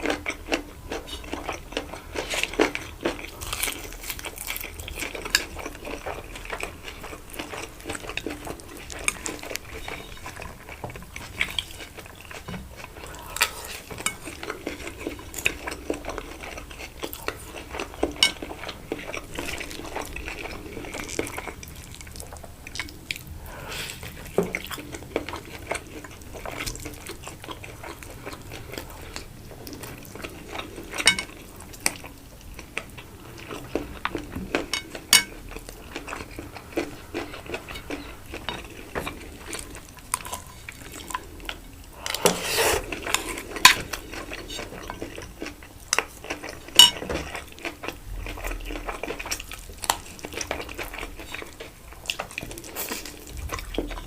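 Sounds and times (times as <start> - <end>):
chewing and biting: 0.0 - 23.3, 23.9 - 54.0.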